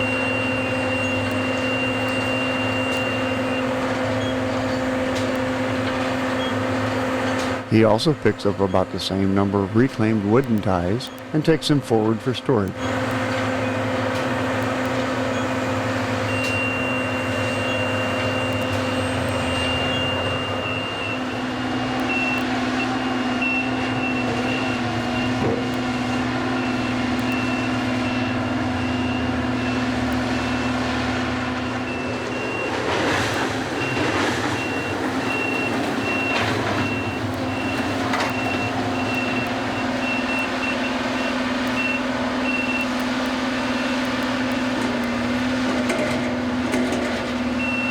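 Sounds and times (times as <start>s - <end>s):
crane warning alarm beeping: 0.0s - 47.9s
diesel machinery running: 0.0s - 47.9s.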